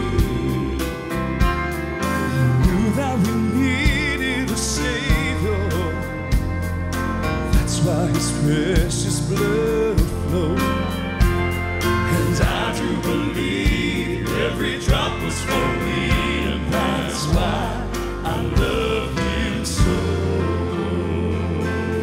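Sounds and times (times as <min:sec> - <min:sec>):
male vocal quartet singing: 0:00.0 - 0:06.4, 0:07.5 - 0:11.0, 0:11.8 - 0:22.0
drums on steady beat: 0:00.0 - 0:08.0, 0:11.2 - 0:20.8
bass: 0:00.0 - 0:22.0
piano: 0:00.0 - 0:22.0.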